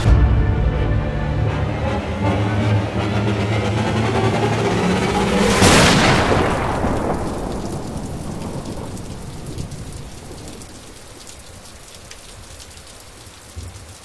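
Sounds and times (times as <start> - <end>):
thunder rumbling: 1.6 - 13.2
steady rain: 1.9 - 14.0.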